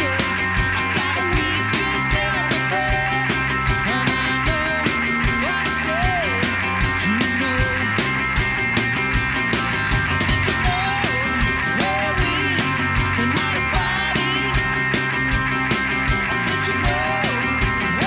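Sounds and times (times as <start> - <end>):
man singing: 0.0 - 8.1, 10.0 - 14.8, 16.2 - 18.0
electric bass: 0.0 - 18.0
electric guitar: 0.0 - 18.0
rock band playing live: 0.0 - 18.0
steady drum beat: 0.0 - 18.0.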